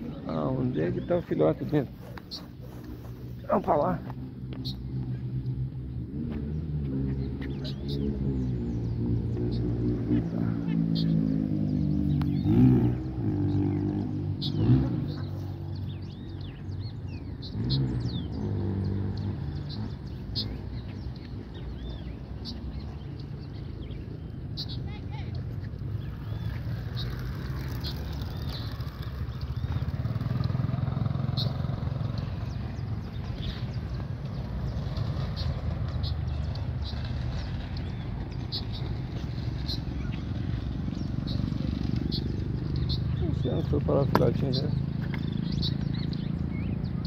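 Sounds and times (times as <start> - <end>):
low vehicle rumble: 0.0 - 47.0
birds giving sharp alarm calls: 6.6 - 46.8.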